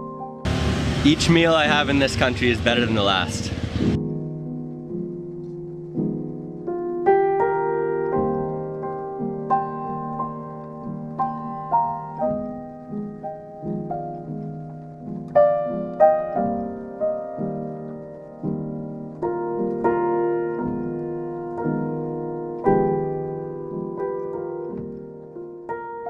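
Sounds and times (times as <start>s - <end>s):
gentle solo piano music: 0.0s - 0.5s, 1.7s - 26.0s.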